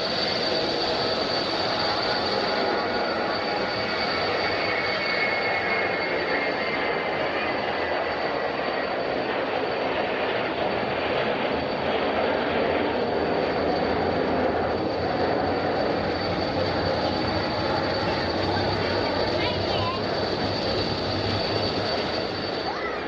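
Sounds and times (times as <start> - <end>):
high engine whine: 0.0 - 23.0
jet engines roaring: 0.0 - 23.0.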